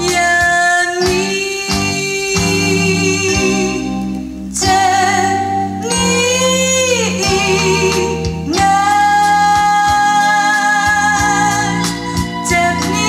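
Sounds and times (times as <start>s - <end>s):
instruments playing: 0.0s - 13.0s.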